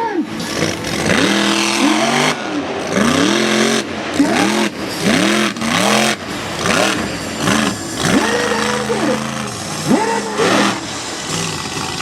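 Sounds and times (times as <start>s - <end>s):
truck engine revving: 0.2s - 12.0s.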